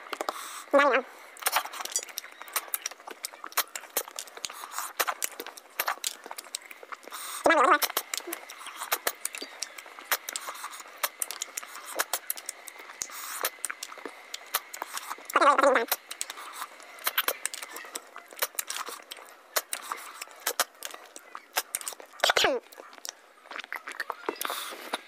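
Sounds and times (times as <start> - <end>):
mouth chewing and sucking: 0.1 - 25.0.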